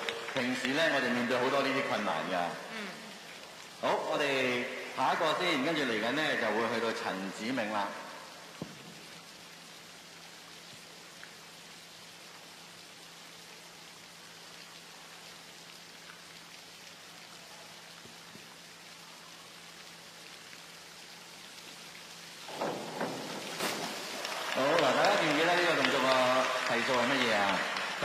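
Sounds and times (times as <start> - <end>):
faint steady hiss: 0.0 - 28.0.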